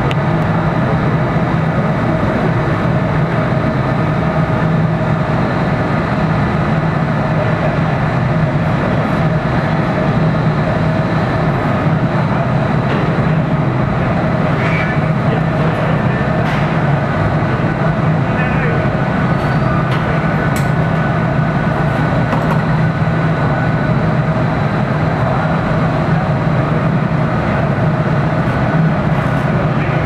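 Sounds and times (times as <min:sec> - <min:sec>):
constant low hum: 0:00.0 - 0:30.0.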